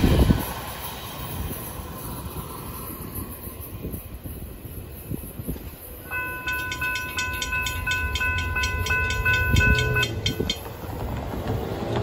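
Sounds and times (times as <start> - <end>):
railroad crossing bell ringing: 0.0 - 11.4
low traffic rumble: 0.0 - 12.0.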